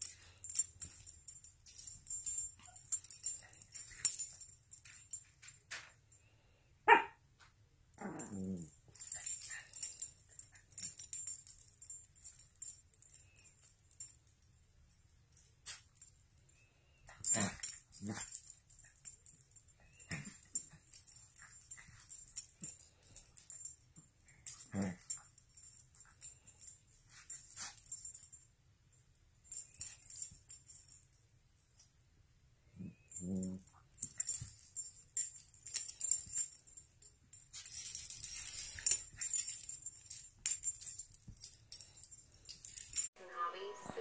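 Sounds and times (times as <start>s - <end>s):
collar tags jingling: 0.0s - 7.0s, 7.9s - 32.0s, 32.6s - 43.2s.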